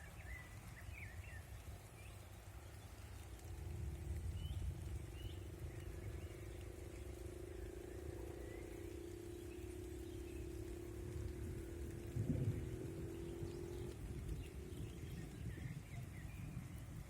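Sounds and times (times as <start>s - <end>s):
low rumble: 3.0s - 17.0s.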